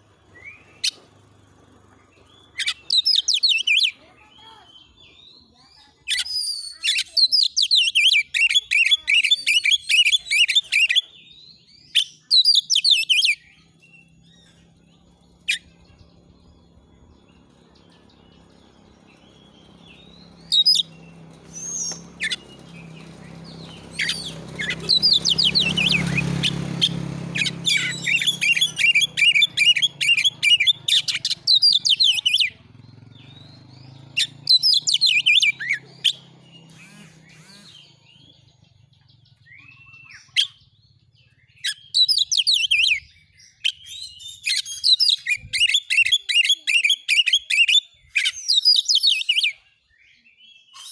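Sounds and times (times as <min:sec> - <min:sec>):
bird singing sharp chattering notes: 0:00.0 - 0:49.6.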